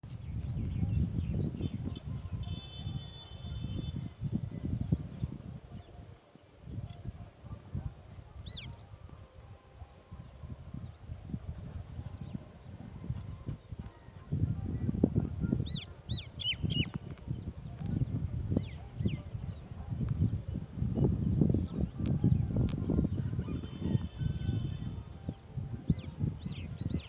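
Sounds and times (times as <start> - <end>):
insects chirping: 0.1 - 27.0.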